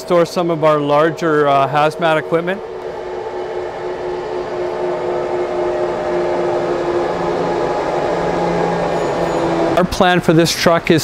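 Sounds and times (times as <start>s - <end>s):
motorized stairway hum and whine: 0.0s - 10.5s.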